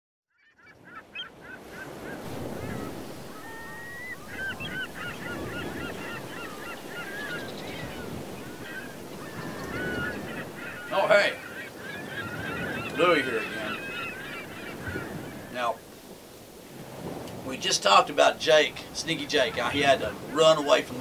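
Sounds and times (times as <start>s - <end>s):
birds honking: 0.4s - 21.0s.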